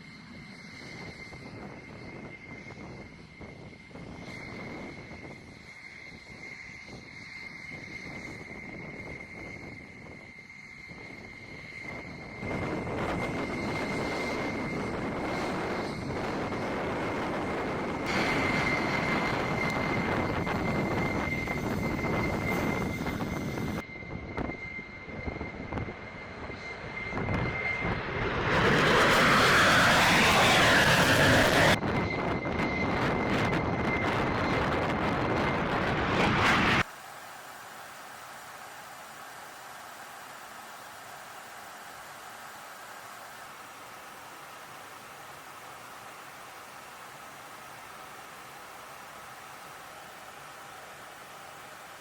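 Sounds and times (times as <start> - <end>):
jet engine whining: 0.0 - 52.0.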